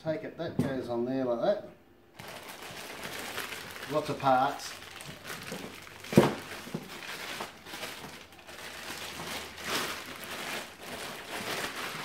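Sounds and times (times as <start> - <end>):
plastic bag crinkling: 2.2 - 12.0.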